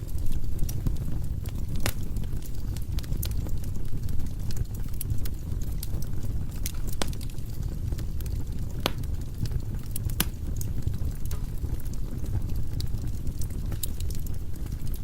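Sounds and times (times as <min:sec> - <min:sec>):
logs crackling and popping: 0:00.0 - 0:15.0
low rumble of flame: 0:00.0 - 0:15.0.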